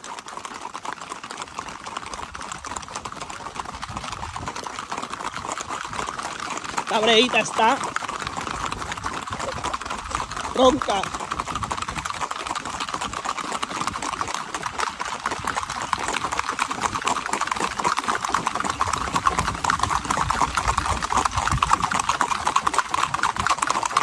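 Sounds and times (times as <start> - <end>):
horse hooves on asphalt: 0.0 - 24.0.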